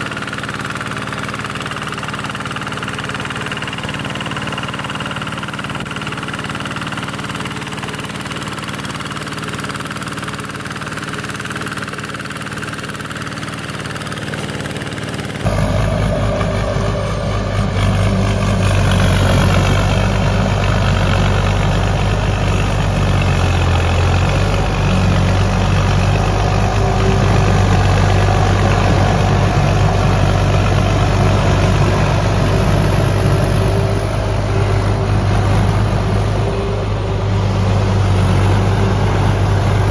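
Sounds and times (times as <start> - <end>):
diesel engine running: 0.0 - 39.9
low-pitched engine running: 0.0 - 39.9.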